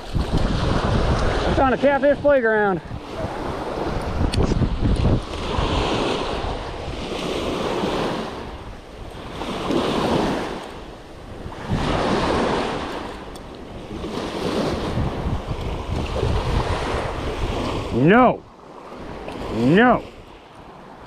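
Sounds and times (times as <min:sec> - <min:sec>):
small waves breaking on beach: 0:00.0 - 0:21.0
wind rumbling on microphone: 0:00.0 - 0:21.0.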